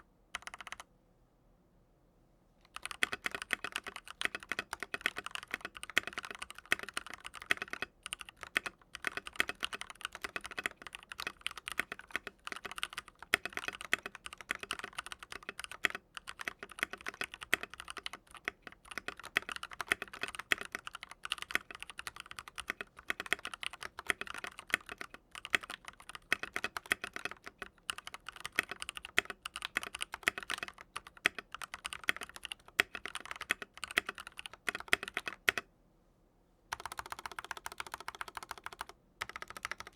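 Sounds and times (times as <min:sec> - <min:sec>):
mechanical keyboard typing: 0:00.4 - 0:00.8, 0:02.7 - 0:35.7, 0:36.7 - 0:39.9.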